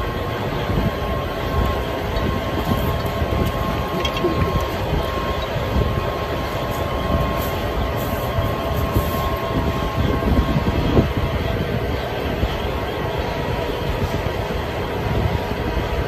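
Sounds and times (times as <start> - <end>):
faint steady hum: 0.0 - 16.0
machine rumble: 0.0 - 16.0.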